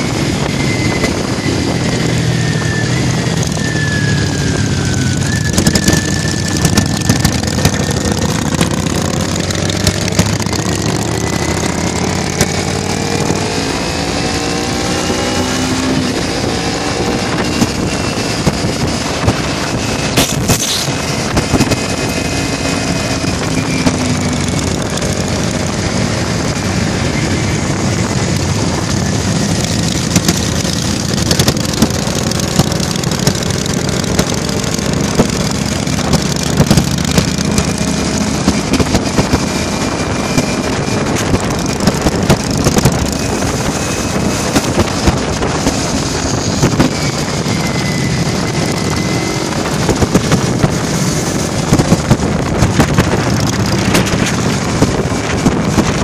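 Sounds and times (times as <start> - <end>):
motorcycle engines cruising: 0.0 - 56.0
wind buffeting microphone: 0.0 - 56.0.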